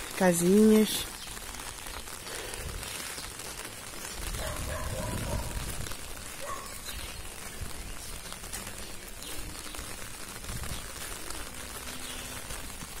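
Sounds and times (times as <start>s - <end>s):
rain falling: 0.0s - 13.0s
raindrop ticks: 0.0s - 13.0s.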